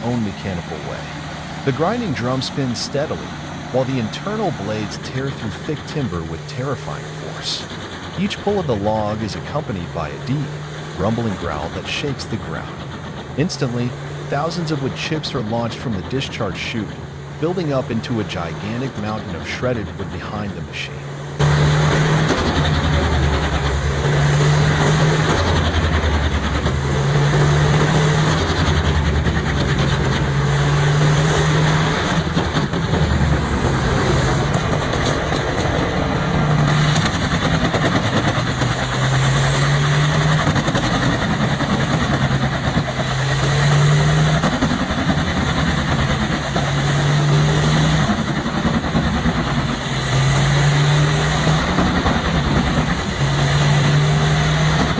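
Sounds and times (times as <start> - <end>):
grinding hiss of chipping: 0.0 - 54.9
wood chipper engine under load: 0.0 - 54.9.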